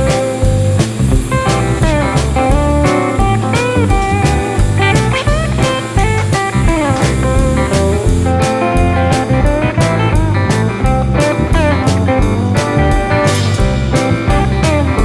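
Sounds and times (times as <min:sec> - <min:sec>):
bass: 0:00.0 - 0:15.0
blues electric guitar: 0:00.0 - 0:15.0
steady drum beat: 0:00.0 - 0:15.0.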